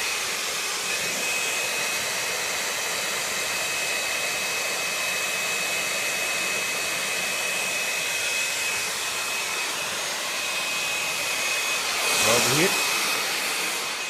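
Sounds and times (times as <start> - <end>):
blow dryer running: 0.0 - 14.0.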